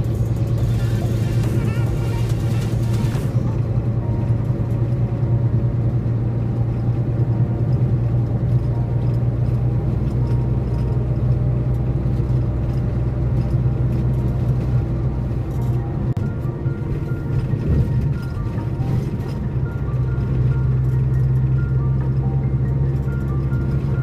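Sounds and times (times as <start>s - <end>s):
car engine and tyre hum: 0.0s - 24.0s.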